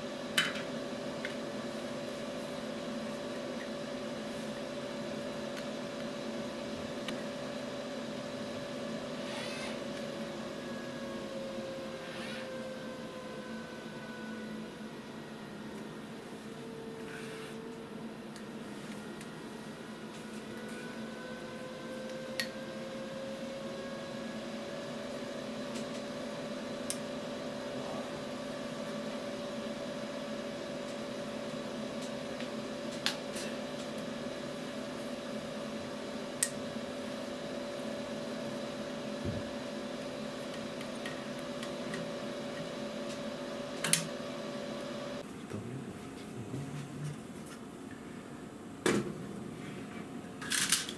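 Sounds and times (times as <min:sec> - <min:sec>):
machine hum: 0:00.0 - 0:49.7.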